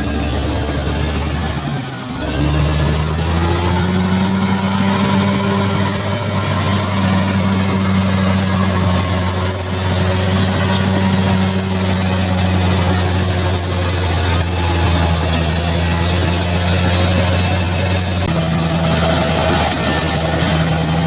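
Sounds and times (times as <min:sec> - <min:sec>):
bulldozer diesel engine: 0:00.0 - 0:21.0
metallic squeal from tracks: 0:00.0 - 0:21.0.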